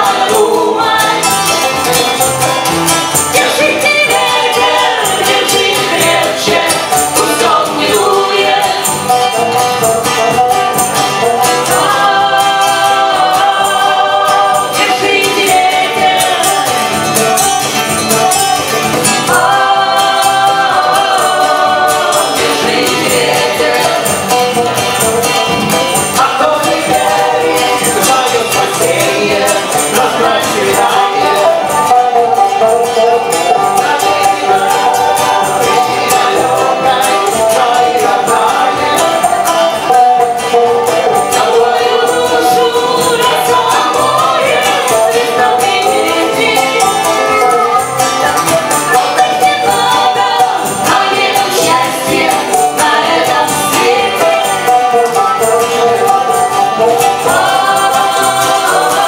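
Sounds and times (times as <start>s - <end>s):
banjo: 0.0s - 59.0s
fiddle: 0.0s - 59.0s
strummed acoustic guitar: 0.0s - 59.0s
voices singing together: 0.0s - 59.0s.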